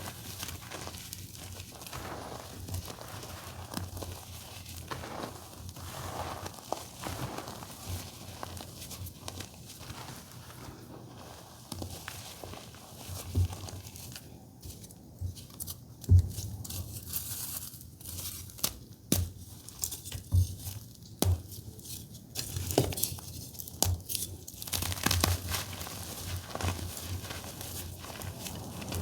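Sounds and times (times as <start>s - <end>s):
chalk crumbling and crunching: 0.0s - 29.0s.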